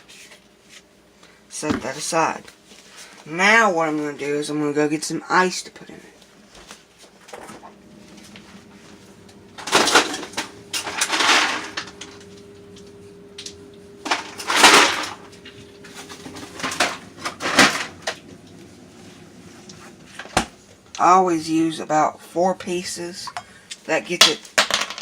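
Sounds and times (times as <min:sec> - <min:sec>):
steady hum: 0:00.0 - 0:24.2.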